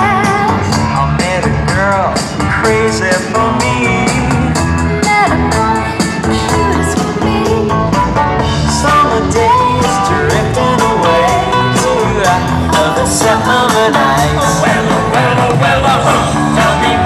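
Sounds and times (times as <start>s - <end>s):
person singing: 0.0s - 17.0s
steady drum beat: 0.0s - 17.0s.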